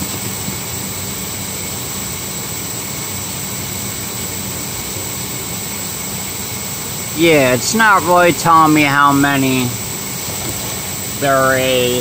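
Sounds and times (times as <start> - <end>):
mechanical drone: 0.0 - 12.0.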